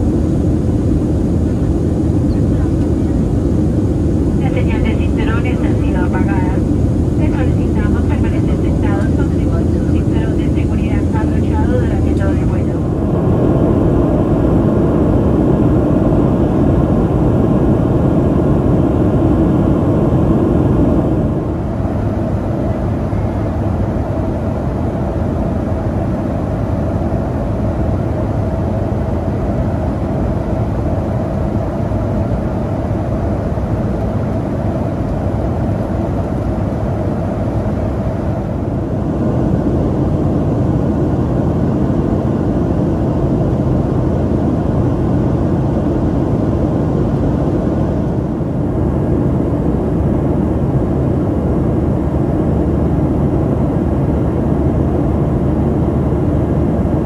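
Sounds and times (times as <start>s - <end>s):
air rushing along fuselage: 0.0s - 57.0s
jet engine drone in cabin: 0.0s - 57.0s.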